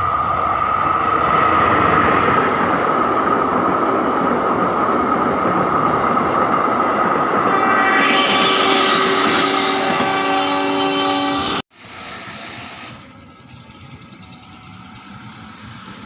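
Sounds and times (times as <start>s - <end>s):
train rolling on rails: 0.0s - 16.0s.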